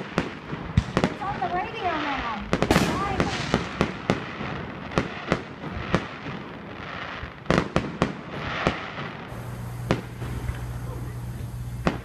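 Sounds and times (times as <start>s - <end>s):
fireworks bangs: 0.0s - 12.0s
hissing crackle: 0.0s - 12.0s.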